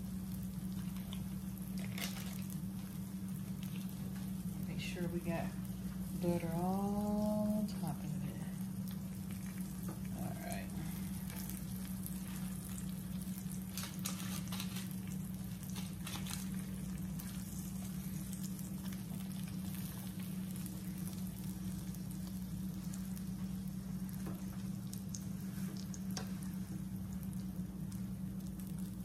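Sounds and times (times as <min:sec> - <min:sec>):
butter and oil sizzling in a skillet: 0:00.0 - 0:29.0
steady low hum: 0:00.0 - 0:29.0.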